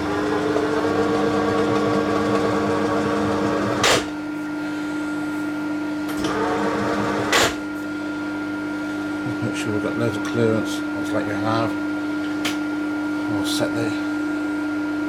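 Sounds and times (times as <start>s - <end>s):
milling machine humming: 0.0s - 12.3s.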